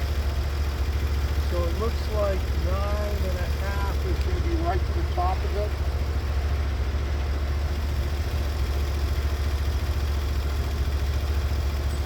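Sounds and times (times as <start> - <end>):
sawmill engine idling: 0.0 - 12.0.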